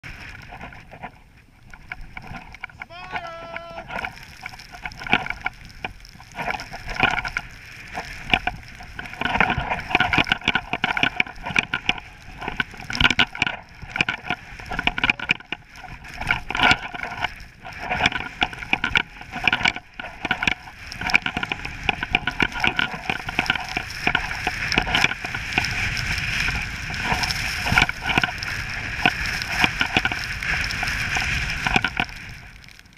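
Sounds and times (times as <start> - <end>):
skis scraping over snow: 0.0 - 32.9
wind rushing over microphone: 0.0 - 32.9.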